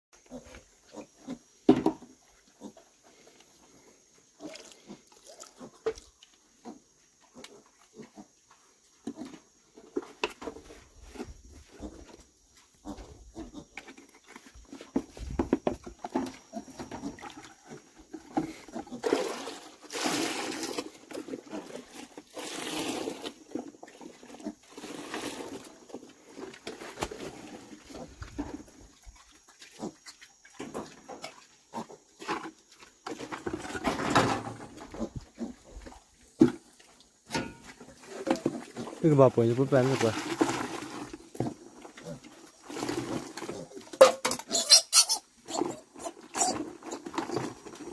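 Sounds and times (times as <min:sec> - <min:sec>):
pigs grunting and snuffling: 0:00.2 - 0:47.9.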